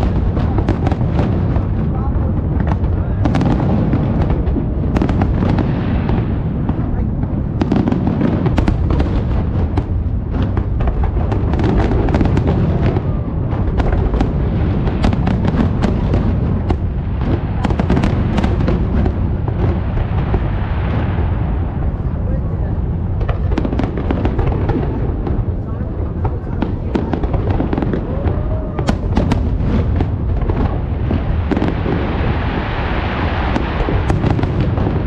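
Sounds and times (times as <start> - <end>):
fireworks bangs and crackles: 0.0 - 35.0
low rumble: 0.0 - 35.0.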